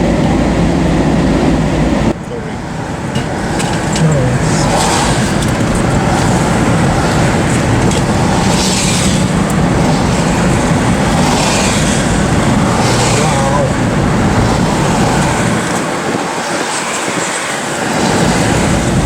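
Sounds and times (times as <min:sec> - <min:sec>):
road and wind noise inside vehicle: 0:00.0 - 0:19.0.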